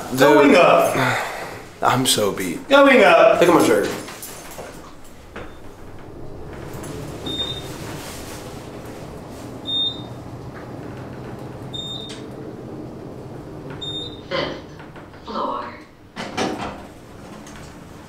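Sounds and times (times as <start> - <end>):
elevator hum: 0.0 - 18.0.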